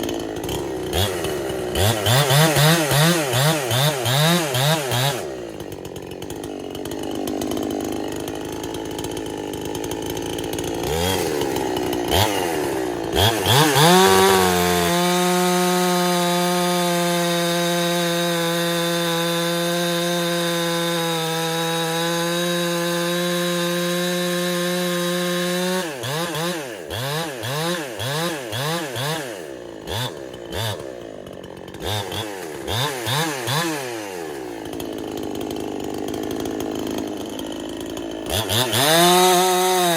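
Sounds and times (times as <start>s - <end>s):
two-stroke chainsaw revving: 0.0s - 39.9s.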